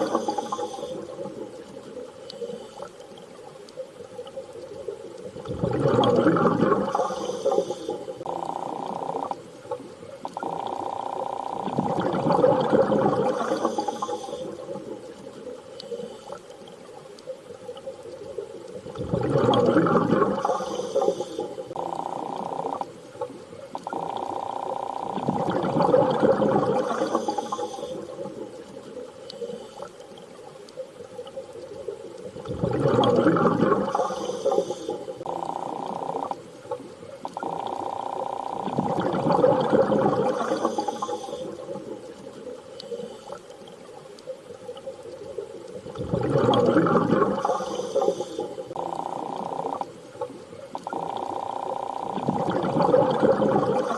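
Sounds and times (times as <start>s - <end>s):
underwater rushing water: 0.0s - 53.9s.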